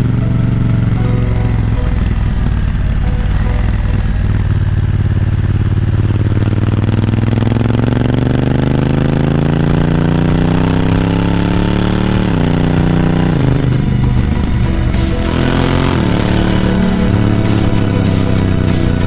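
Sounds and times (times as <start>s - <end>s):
gear shifts: 0.0s - 19.0s
motorcycle engine accelerating: 0.0s - 19.0s.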